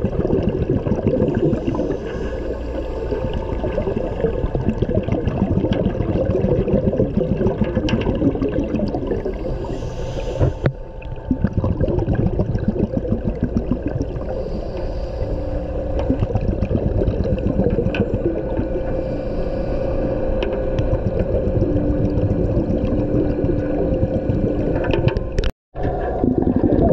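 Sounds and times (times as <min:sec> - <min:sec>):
faint steady hum: 0:00.0 - 0:26.9
underwater sloshing and bubbling: 0:00.0 - 0:26.9.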